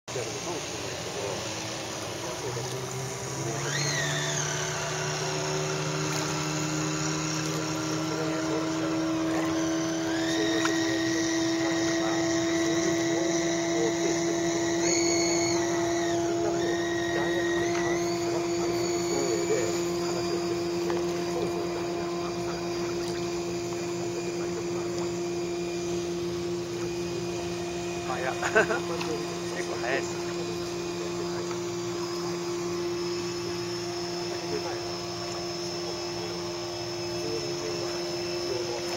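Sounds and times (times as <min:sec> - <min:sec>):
model boat electric motors whining: 0:00.1 - 0:38.9.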